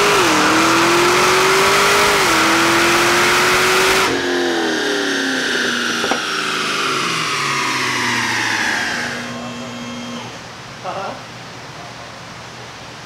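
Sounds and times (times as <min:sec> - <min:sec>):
car engine winding down: 0:00.0 - 0:10.5.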